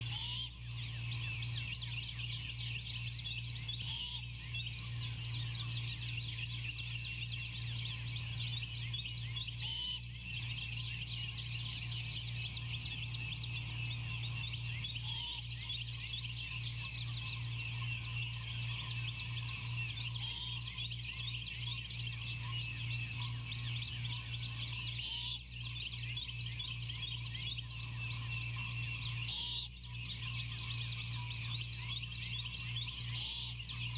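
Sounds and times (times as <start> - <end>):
low electrical hum: 0.0 - 33.9.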